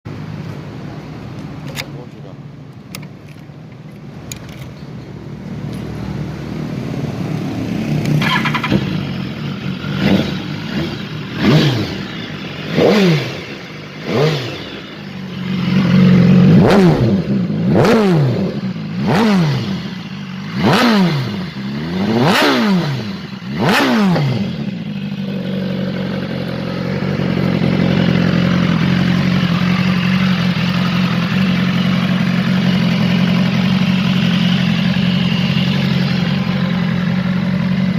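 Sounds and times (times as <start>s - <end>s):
motorcycle engine revving: 4.2s - 37.9s.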